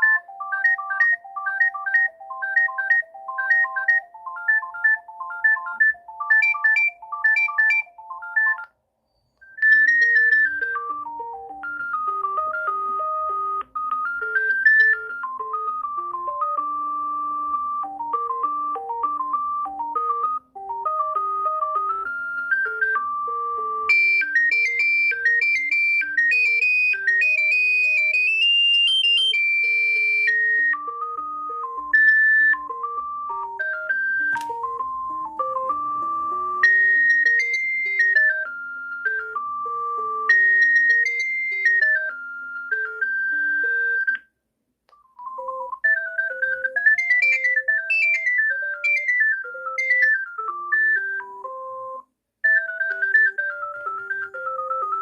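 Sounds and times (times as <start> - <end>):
ringtone melody: 0.0 - 55.0
ringtone two-note trill: 9.4 - 44.2, 45.2 - 55.0.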